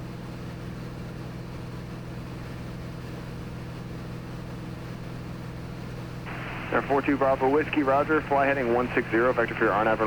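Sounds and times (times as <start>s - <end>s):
aircraft engine and propeller droning: 0.0s - 10.0s.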